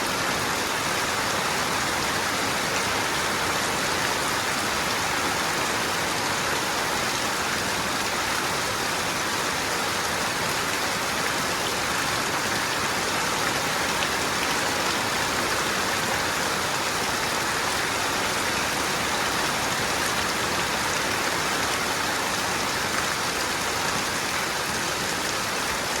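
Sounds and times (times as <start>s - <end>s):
rain on a roof: 0.0s - 26.0s
rainwater running off roof: 0.0s - 26.0s.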